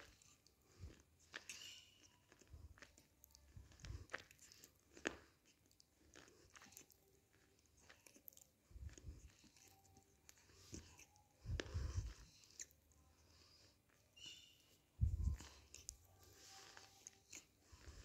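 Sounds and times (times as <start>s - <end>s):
faint chewing crunches: 0.0s - 18.0s.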